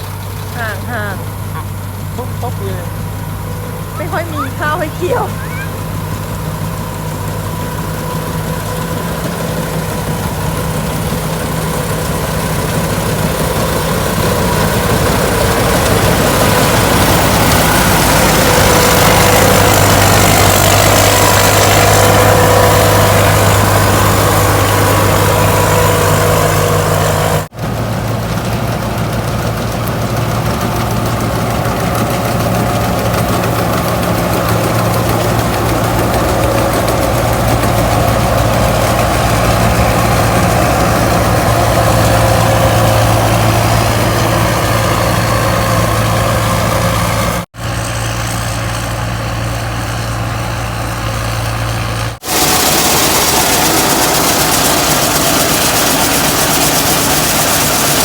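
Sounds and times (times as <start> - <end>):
combine harvester engine droning: 0.0 - 58.0.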